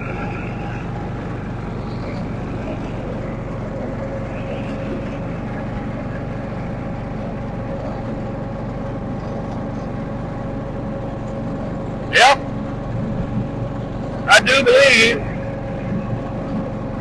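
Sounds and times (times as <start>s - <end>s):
mower blade whine: 0.0s - 17.0s
riding mower engine hum: 0.0s - 17.0s.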